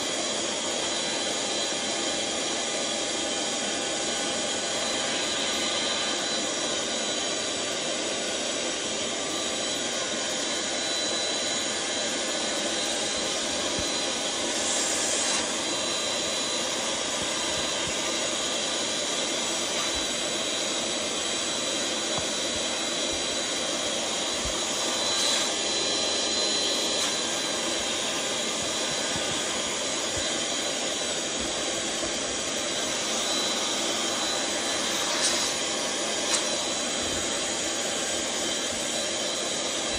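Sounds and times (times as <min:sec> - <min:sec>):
electric air pump whining: 0:00.0 - 0:39.9.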